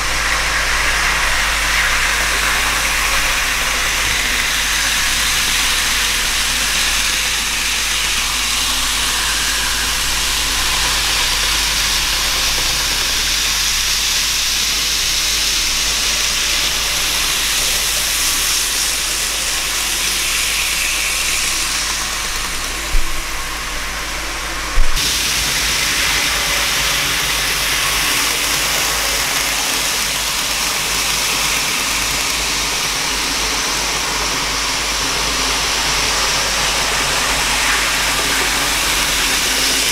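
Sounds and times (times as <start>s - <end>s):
model trains whirring on track: 0.0s - 39.9s.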